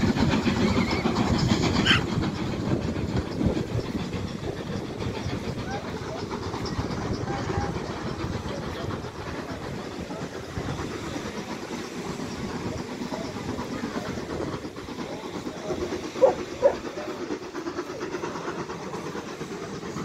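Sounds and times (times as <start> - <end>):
steam train rumbling and hissing: 0.0 - 20.0.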